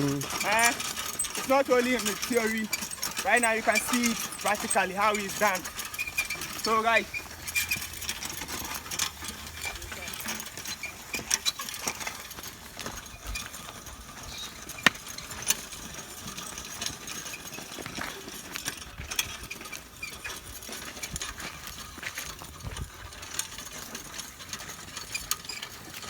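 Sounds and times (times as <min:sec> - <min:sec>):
plough clicks and crunches: 0:00.0 - 0:26.0.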